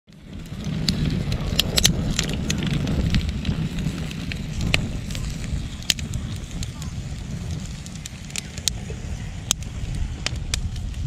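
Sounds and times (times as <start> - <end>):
campfire crackling and popping: 0.1 - 11.0
fire low rumble: 0.1 - 11.0.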